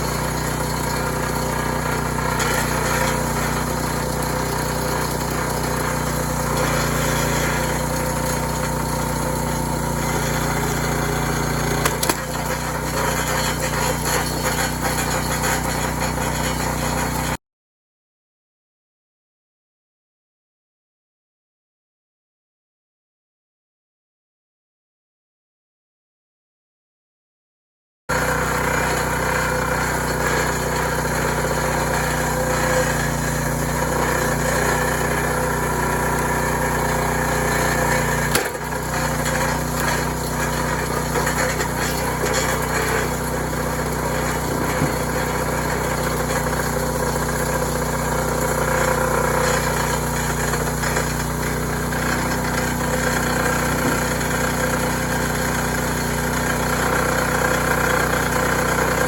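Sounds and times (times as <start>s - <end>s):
small gasoline engine running: 0.0s - 17.4s, 28.1s - 59.0s.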